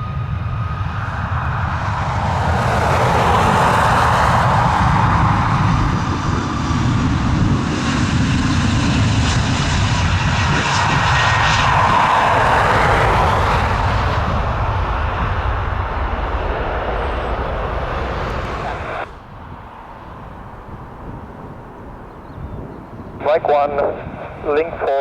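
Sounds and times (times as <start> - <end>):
airliner engines passing: 0.0 - 25.0.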